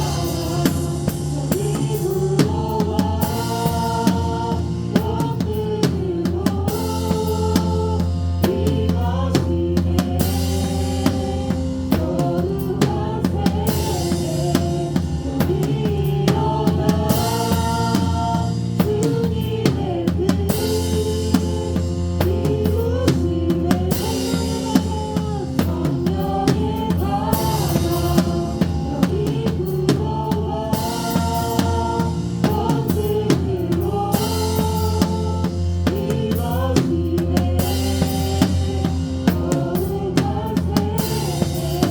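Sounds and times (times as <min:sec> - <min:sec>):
band playing chords and melody: 0:00.0 - 0:41.9
drum kit beat: 0:00.0 - 0:41.9.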